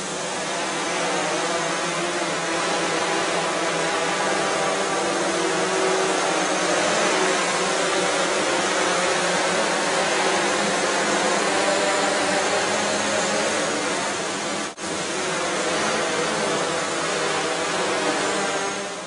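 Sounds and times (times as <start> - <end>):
drone propellers whirring: 0.0 - 19.0.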